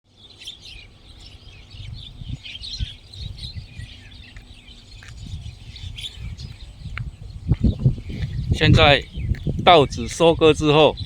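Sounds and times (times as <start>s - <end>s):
birds chattering and chirping: 0.1s - 11.0s.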